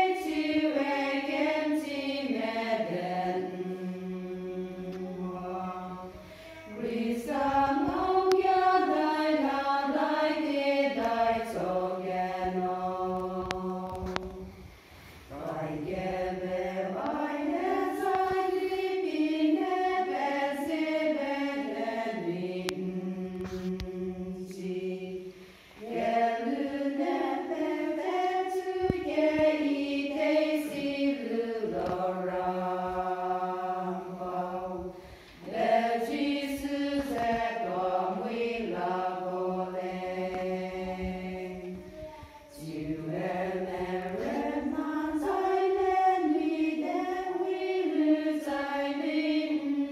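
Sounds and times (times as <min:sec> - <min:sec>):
women's choir singing a hymn: 0:00.0 - 0:49.9.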